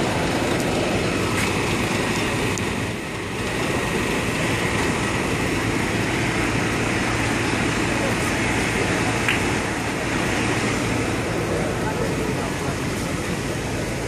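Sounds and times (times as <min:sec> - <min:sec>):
diesel engines rumbling: 0:00.0 - 0:14.0
street and traffic noise: 0:00.0 - 0:14.0.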